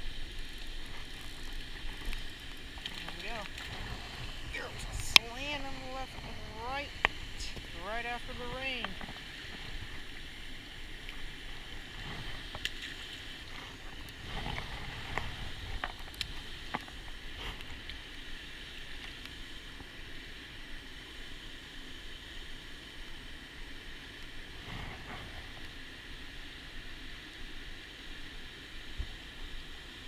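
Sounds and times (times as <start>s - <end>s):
water: 0.0s - 30.0s
wind: 0.0s - 30.0s.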